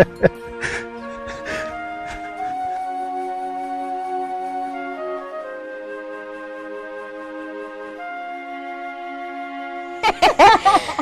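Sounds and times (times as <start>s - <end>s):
flute long note: 0.0s - 11.0s.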